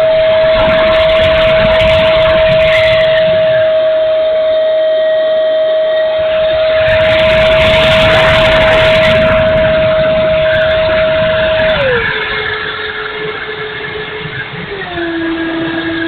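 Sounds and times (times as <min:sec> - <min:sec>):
electric ducted fan whining: 0:00.0 - 0:16.0
wind rumbling on microphone: 0:00.0 - 0:16.0.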